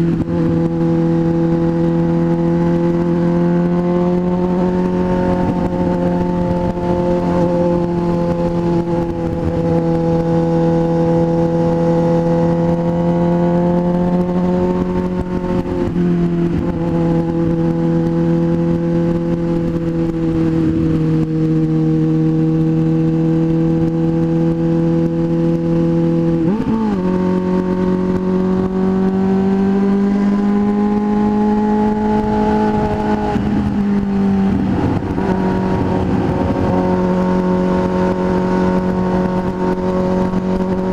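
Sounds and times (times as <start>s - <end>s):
motorcycle engine cruising: 0.0s - 40.9s
wind noise: 0.0s - 40.9s.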